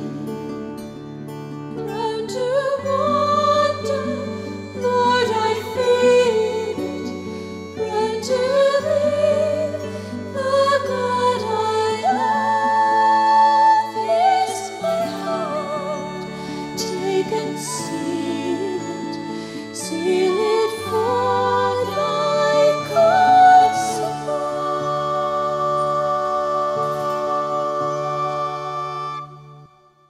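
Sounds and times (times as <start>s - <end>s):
slow wavering melody: 0.0s - 30.0s.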